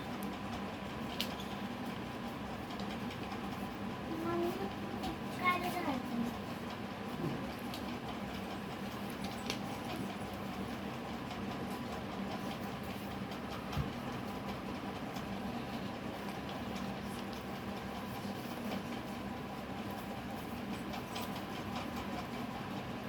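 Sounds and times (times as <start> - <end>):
mechanical hum with hiss: 0.0 - 23.0.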